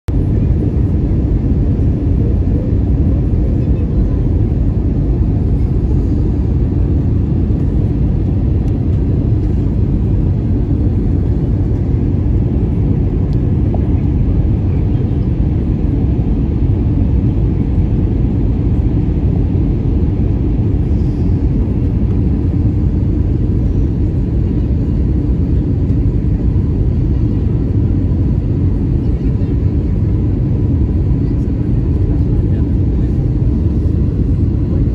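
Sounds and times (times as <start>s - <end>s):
aircraft engines deep rumble: 0.1s - 34.9s
faint engine whine: 0.1s - 34.9s.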